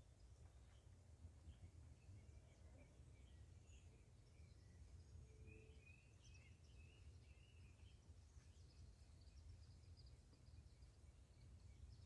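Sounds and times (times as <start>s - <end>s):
faint bird chirps: 0.1s - 12.0s.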